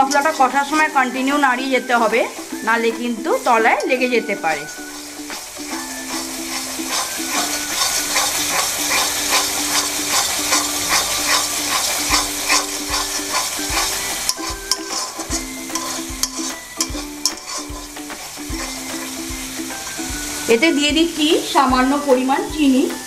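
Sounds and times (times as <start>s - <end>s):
metal spatula scraping pan: 0.0s - 20.6s
paste sizzling in oil: 0.0s - 23.0s.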